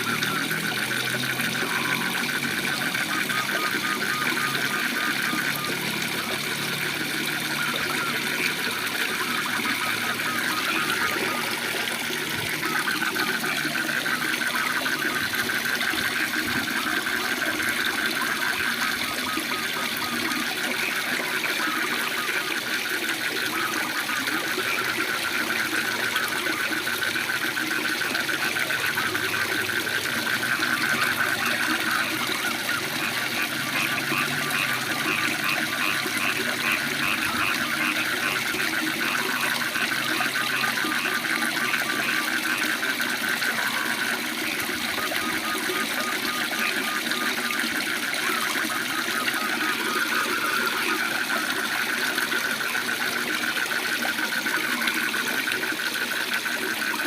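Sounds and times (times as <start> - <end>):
frogs trilling: 0.0 - 57.0.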